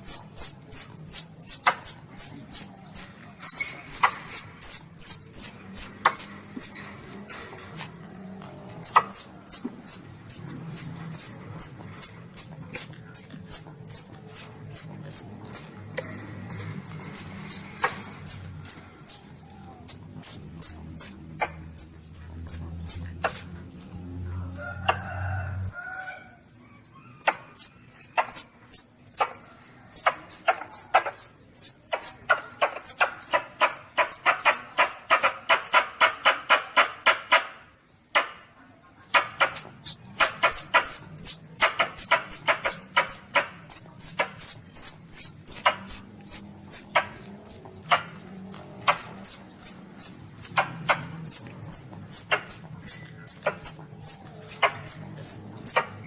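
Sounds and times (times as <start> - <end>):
high-pitched animal squeaks: 0.0 - 8.0, 8.8 - 16.2, 17.1 - 23.6, 27.1 - 36.3, 39.2 - 48.1, 48.8 - 56.0.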